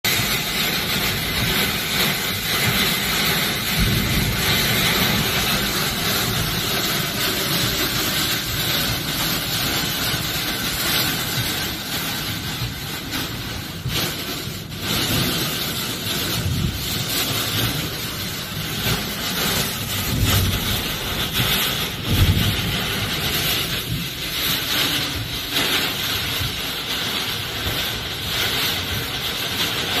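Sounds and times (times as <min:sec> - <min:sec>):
heavy rain: 0:00.0 - 0:30.0
strong wind: 0:00.2 - 0:30.0.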